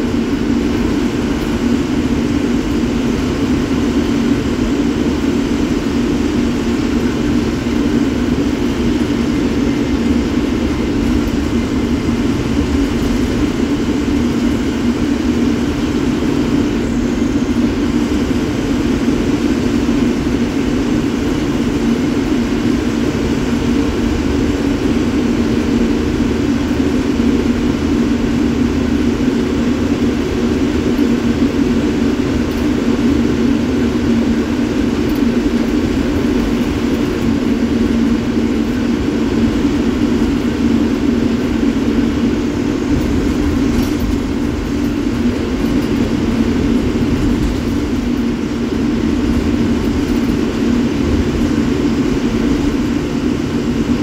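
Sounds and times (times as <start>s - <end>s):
road noise: 0.0s - 53.3s
bus diesel engine running: 0.0s - 54.0s.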